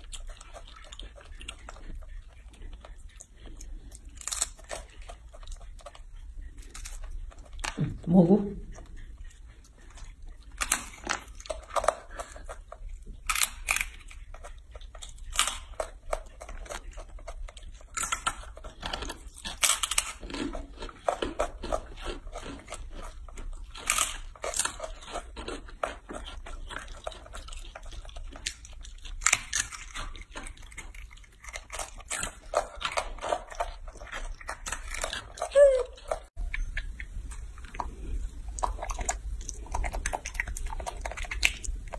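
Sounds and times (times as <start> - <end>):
monkey crunching crisp chips: 0.0 - 41.9.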